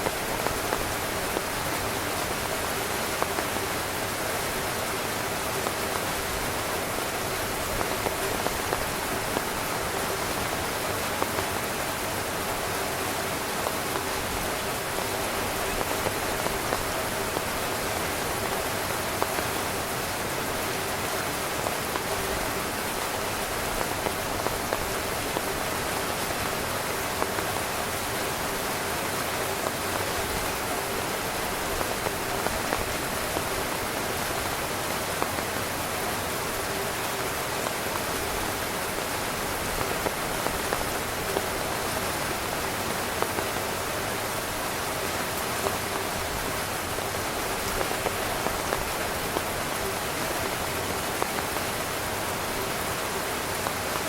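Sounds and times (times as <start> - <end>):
rain falling on a tent: 0.0 - 54.0.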